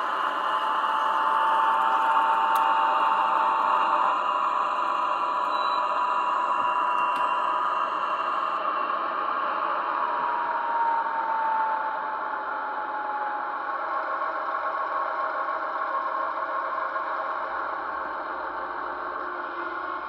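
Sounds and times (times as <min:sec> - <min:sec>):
model train diesel engine sound: 0:00.0 - 0:20.0.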